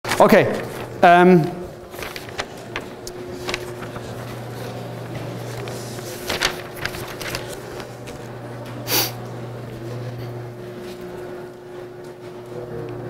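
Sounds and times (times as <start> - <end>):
paper sheets rustling: 0.1 - 11.2
low room hum: 0.1 - 13.0.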